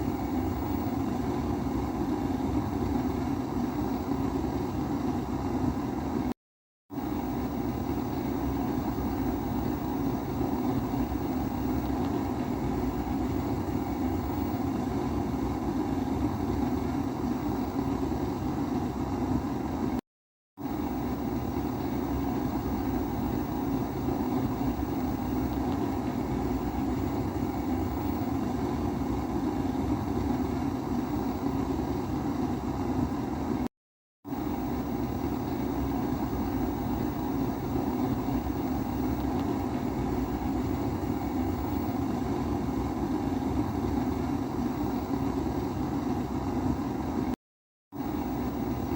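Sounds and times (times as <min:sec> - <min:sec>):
pressure stove burner hum: 0:00.0 - 0:20.0, 0:20.6 - 0:33.7, 0:34.3 - 0:47.4, 0:48.0 - 0:48.9.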